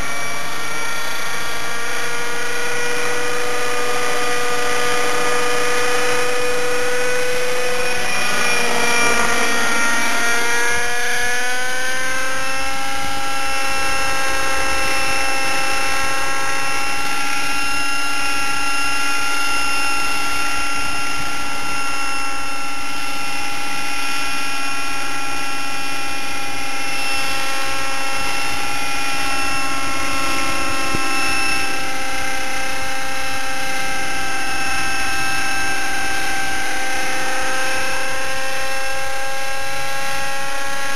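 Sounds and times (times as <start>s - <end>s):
model helicopter engine: 0.0s - 40.9s.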